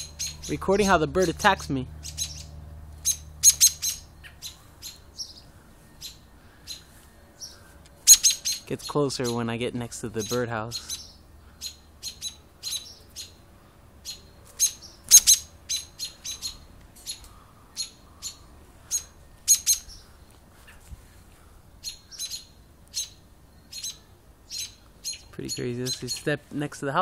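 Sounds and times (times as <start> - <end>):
bird alarm calls: 0.0 - 20.8, 21.8 - 26.4.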